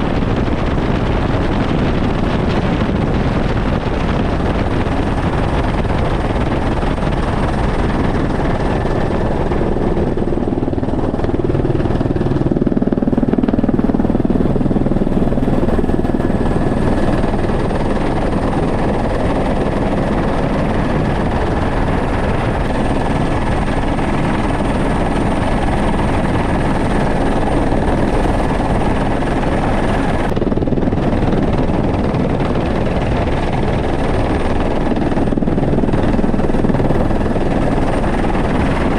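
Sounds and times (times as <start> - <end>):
helicopter rotor and engine noise: 0.0 - 38.9.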